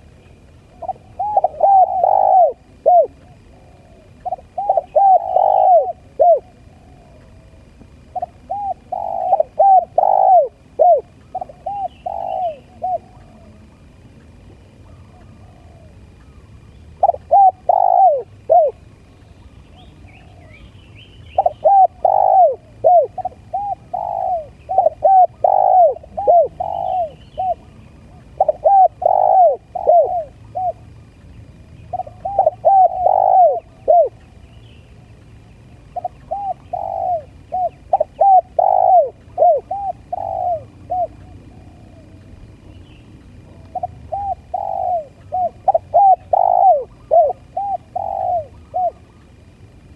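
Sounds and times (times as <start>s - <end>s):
dove cooing: 0.0s - 19.0s, 19.7s - 31.0s, 31.9s - 34.4s, 35.8s - 49.4s.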